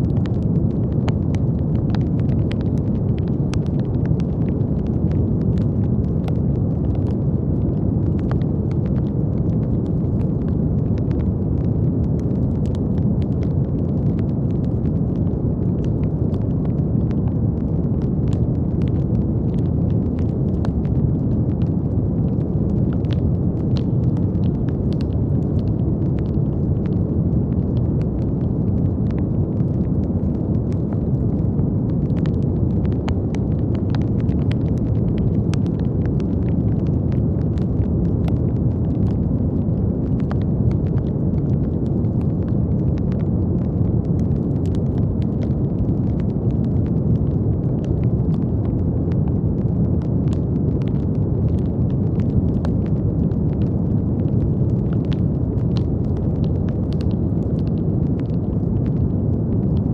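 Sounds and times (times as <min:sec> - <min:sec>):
brown noise: 0:00.0 - 0:59.9
faint irregular crackles: 0:00.0 - 0:59.9.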